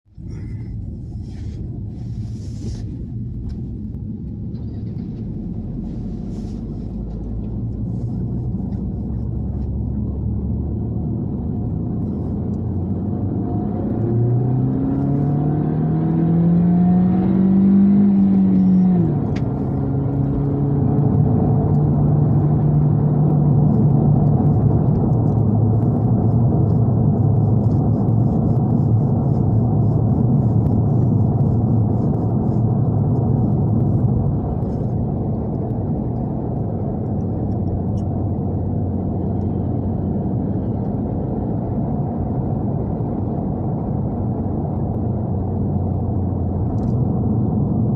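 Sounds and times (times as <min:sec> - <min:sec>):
car engine accelerating: 0:00.1 - 0:47.9.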